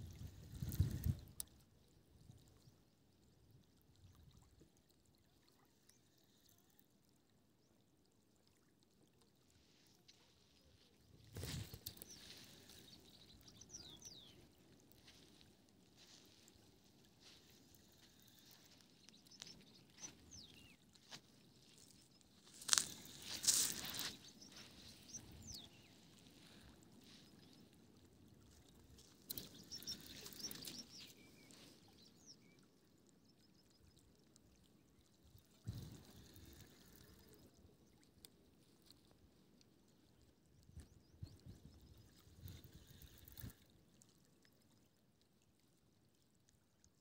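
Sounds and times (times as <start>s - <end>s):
faint water: 0.0s - 47.0s.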